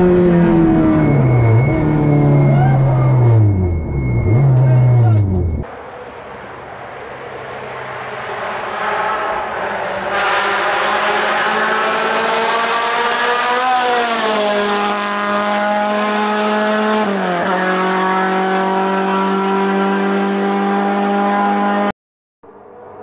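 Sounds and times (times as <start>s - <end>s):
race car engine at full throttle: 0.0s - 23.0s.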